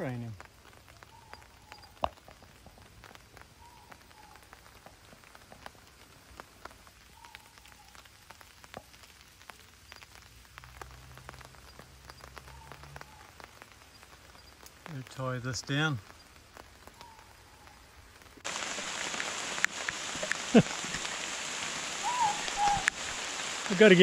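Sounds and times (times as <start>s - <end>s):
raindrops ticking on tarp: 0.0s - 24.0s
soft rain patter: 0.0s - 24.0s.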